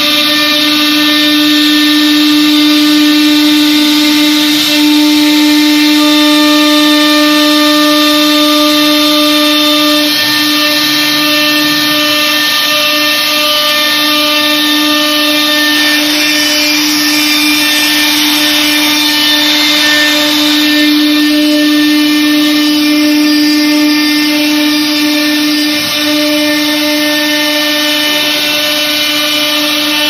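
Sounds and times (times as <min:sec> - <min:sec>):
router spindle whining: 0:00.0 - 0:30.0.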